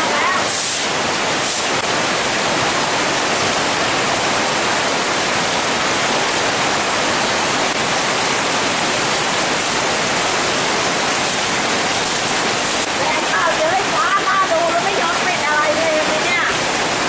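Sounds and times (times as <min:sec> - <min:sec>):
heavy rain splashing on street: 0:00.0 - 0:17.0
rain pouring off awnings: 0:00.0 - 0:17.0.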